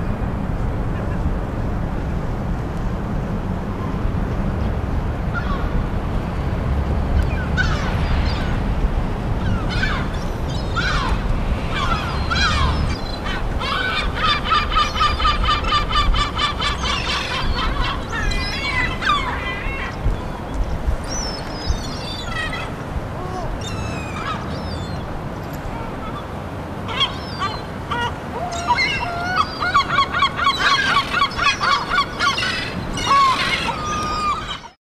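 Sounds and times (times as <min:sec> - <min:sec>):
gulls calling: 0:05.3 - 0:05.9, 0:07.1 - 0:34.8.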